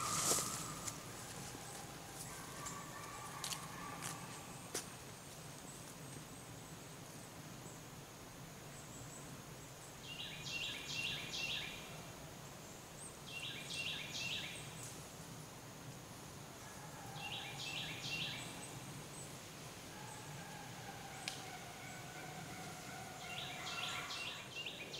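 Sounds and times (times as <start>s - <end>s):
songbird singing: 0.0s - 7.9s, 8.6s - 14.9s, 16.8s - 19.4s, 20.0s - 24.9s
woodland background hiss: 0.0s - 24.9s.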